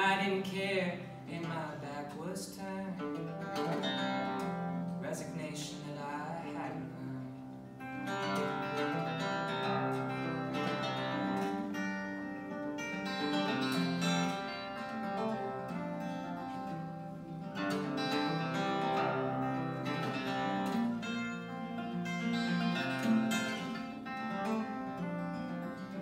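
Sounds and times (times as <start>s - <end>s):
fingerpicked acoustic guitar: 0.0s - 26.0s.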